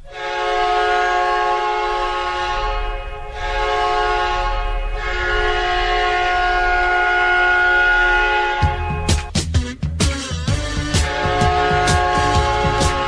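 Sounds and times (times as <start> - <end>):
goal horn blaring: 0.0 - 9.4, 10.4 - 13.0.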